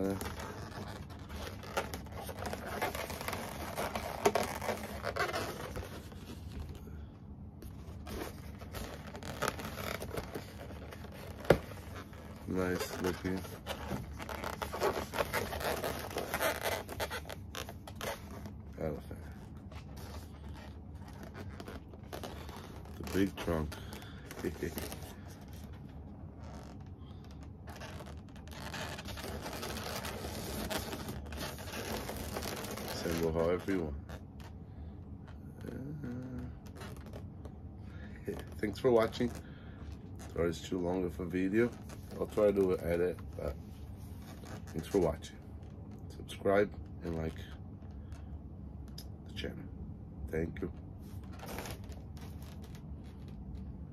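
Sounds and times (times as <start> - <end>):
balloons squeaking and rubbing: 0.0 - 34.7, 35.3 - 48.4, 50.3 - 53.9.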